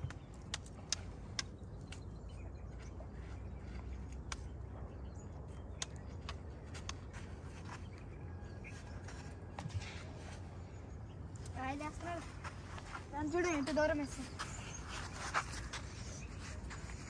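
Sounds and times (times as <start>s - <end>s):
twigs and leaves crackling underfoot: 0.0s - 17.0s.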